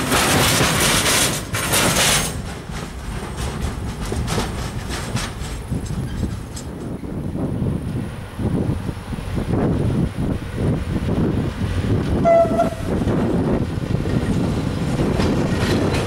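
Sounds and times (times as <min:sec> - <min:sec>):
train wheels rumbling and clacking: 0:00.0 - 0:16.0.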